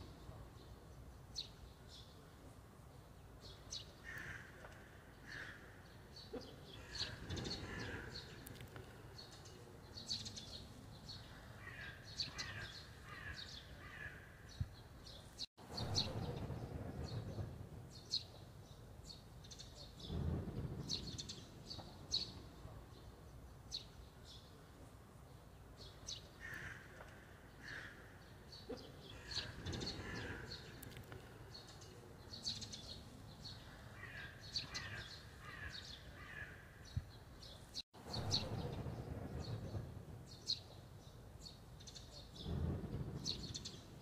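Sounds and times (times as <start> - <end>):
small birds chirping: 0.0 - 44.0
steady low background noise: 0.0 - 44.0.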